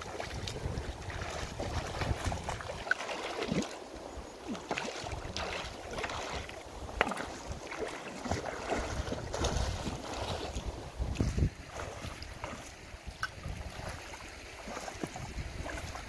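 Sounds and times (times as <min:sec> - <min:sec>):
stream water splashing: 0:00.0 - 0:16.0.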